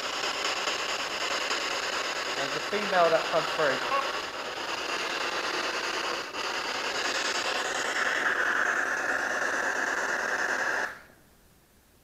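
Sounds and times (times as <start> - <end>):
radio static hiss: 0.0 - 10.9.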